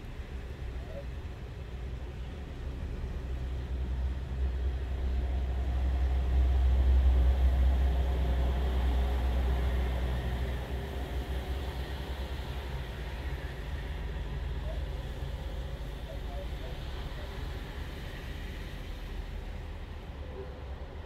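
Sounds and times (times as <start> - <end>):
diesel truck engine rumble: 0.0 - 21.0
tyres hissing on wet road: 2.4 - 21.0.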